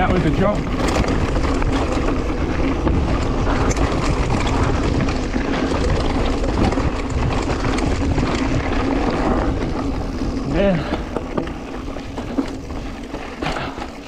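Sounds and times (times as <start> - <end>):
wind rushing over microphone: 0.0 - 13.6
bike rattling over rocks: 0.0 - 14.0.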